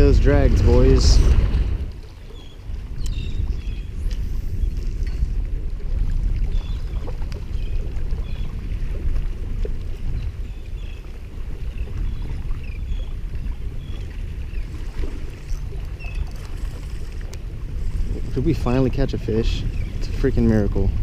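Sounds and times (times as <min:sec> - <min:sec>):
water sloshing: 0:00.0 - 0:21.0
wind rumble on microphone: 0:00.0 - 0:21.0.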